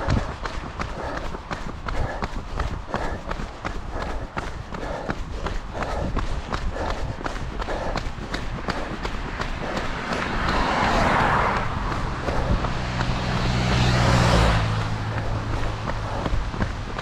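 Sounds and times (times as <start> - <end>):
motor vehicle passing: 0.0 - 17.0
runner's footsteps: 0.0 - 17.0.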